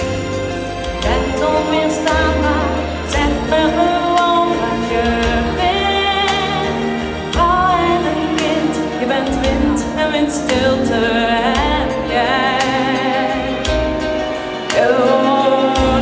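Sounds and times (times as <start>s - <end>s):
pop backing track with beat: 0.0s - 16.0s
woman singing into a microphone: 1.0s - 16.0s.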